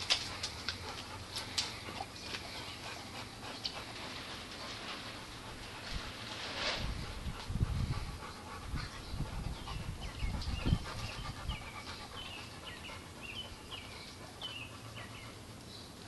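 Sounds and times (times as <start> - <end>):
dog panting: 0.0 - 15.6.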